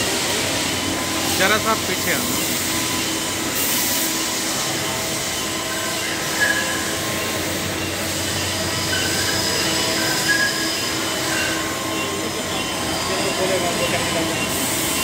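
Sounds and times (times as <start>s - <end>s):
machining center running: 0.0s - 15.0s
high squeals: 0.6s - 15.0s.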